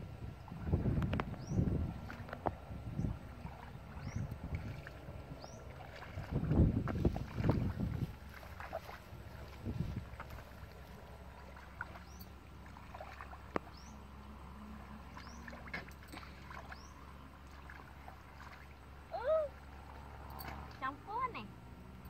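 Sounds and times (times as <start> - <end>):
low steady rumble: 0.0 - 22.0
feet wading through muddy water: 0.4 - 21.0.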